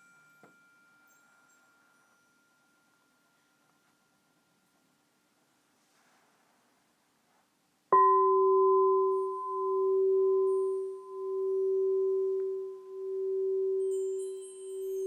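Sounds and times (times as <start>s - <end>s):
crystal singing bowl ringing: 0.0s - 5.0s, 7.9s - 15.0s.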